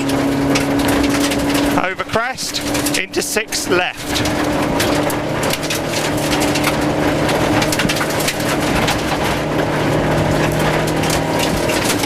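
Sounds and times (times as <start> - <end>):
car engine running: 0.0 - 12.0
gravel hitting car underside: 0.0 - 12.0.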